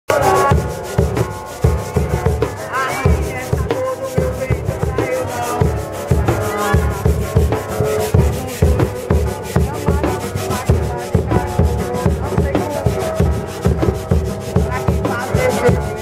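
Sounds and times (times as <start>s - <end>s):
bass drum beating: 0.1s - 16.0s
scraping shaker rhythm: 0.1s - 16.0s.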